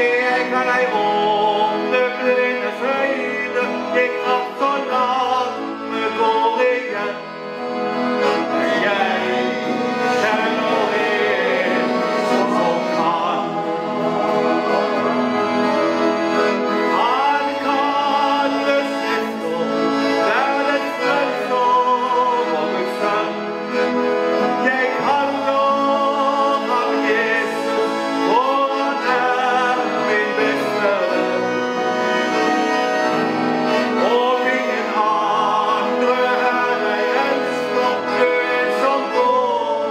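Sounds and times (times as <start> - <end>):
person singing: 0.0 - 39.9
piano accordion playing: 0.0 - 39.9.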